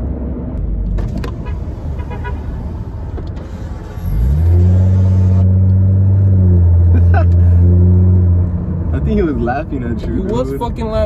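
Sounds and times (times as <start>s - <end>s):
deep vehicle drone: 0.0s - 11.0s
road noise inside moving car: 0.0s - 11.0s.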